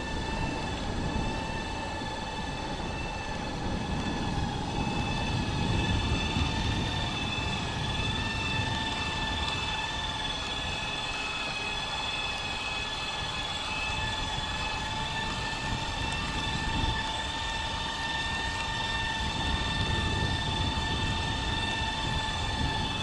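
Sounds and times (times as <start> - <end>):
electric motor propeller whine: 0.0 - 23.0
wind rumble on microphone: 0.0 - 23.0.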